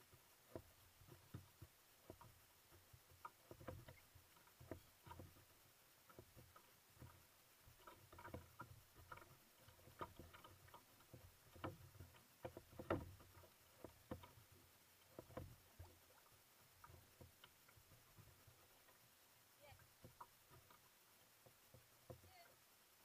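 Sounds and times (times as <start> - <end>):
water slapping against hull: 0.0 - 22.6
paddle splashes and drips: 0.0 - 23.0.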